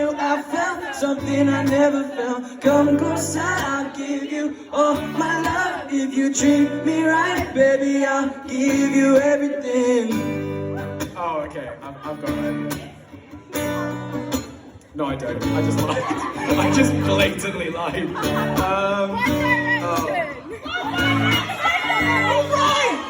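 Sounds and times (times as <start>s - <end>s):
man singing: 0.0s - 13.9s, 14.9s - 23.0s.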